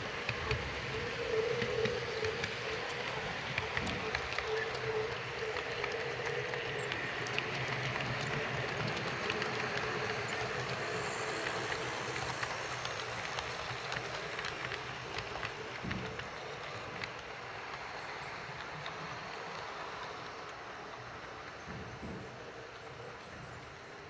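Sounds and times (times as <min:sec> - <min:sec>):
model train motor hum: 0:00.0 - 0:24.0
wheels clicking over rails: 0:00.0 - 0:24.0.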